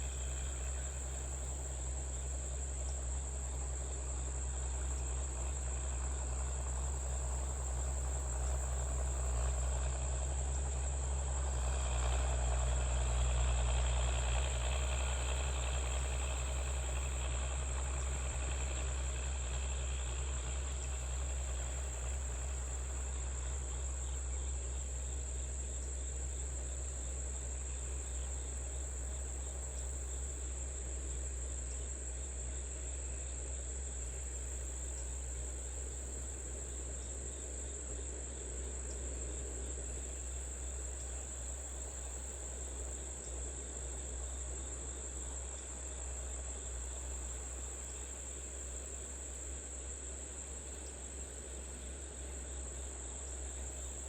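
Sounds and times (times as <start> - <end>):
crickets chirping: 0.0 - 54.0
low engine drone: 0.0 - 54.0.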